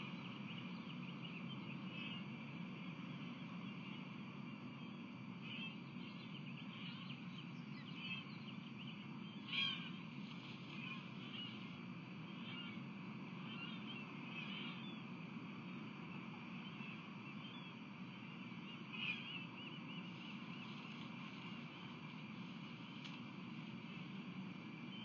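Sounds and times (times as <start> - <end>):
low background rumble: 0.0 - 25.0.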